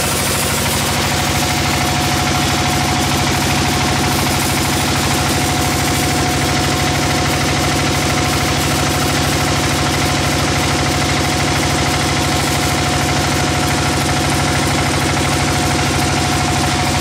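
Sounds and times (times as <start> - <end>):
bandsaw mill sawing wood: 0.0 - 17.0.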